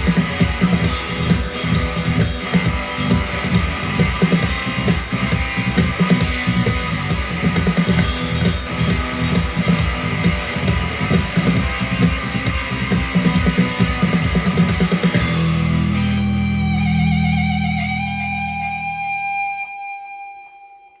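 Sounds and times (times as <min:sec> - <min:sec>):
drum kit: 0:00.0 - 0:18.1
guitars: 0:00.0 - 0:20.9
held guitar chord ringing: 0:00.0 - 0:21.0.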